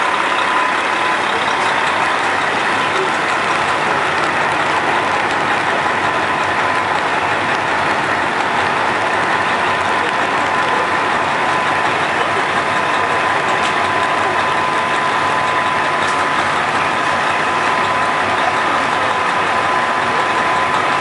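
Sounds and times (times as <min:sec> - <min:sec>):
diesel railcar idling: 0:00.0 - 0:21.0.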